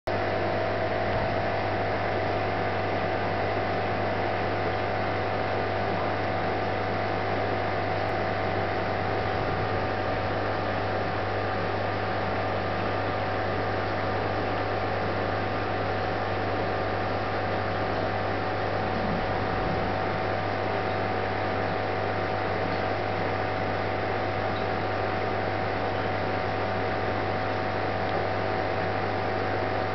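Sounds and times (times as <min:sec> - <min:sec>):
low electrical hum: 0:00.1 - 0:29.9.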